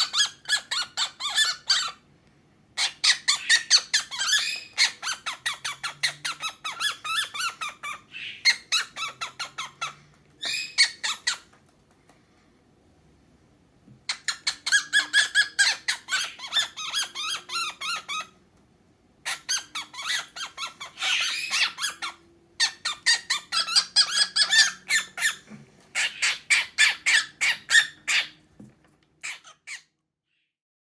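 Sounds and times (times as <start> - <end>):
cockatiel high calls: 0.0 - 2.0, 2.8 - 11.5, 14.1 - 18.4, 19.2 - 28.4, 29.2 - 29.9.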